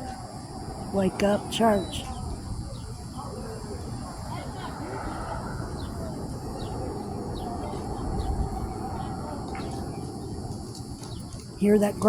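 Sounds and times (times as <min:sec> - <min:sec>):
small birds chirping: 0:01.0 - 0:12.0.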